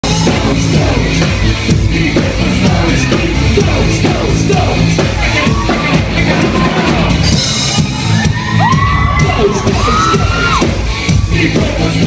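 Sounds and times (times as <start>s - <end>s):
live rock band playing: 0.0s - 12.0s
shouted sung vocal: 0.0s - 12.0s.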